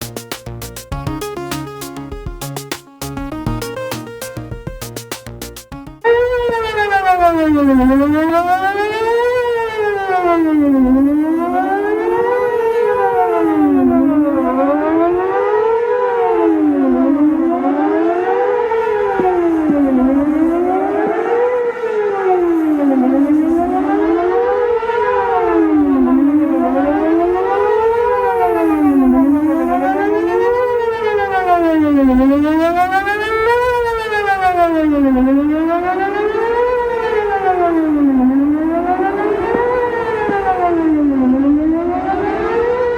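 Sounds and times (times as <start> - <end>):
warning siren wailing: 0.0 - 42.9.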